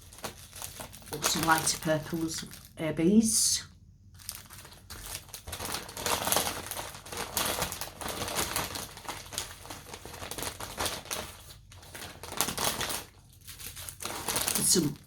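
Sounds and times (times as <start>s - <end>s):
plastic bags crinkling: 0.0s - 2.8s, 4.1s - 15.0s
small beads rattling in bags: 0.0s - 2.8s, 4.2s - 15.0s.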